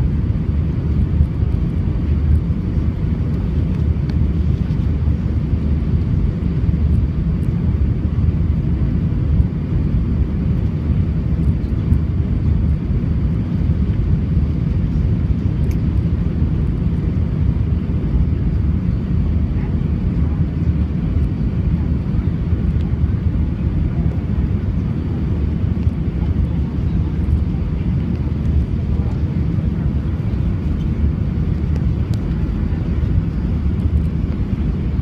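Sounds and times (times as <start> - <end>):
jet engines rumbling in cabin: 0.0 - 35.0.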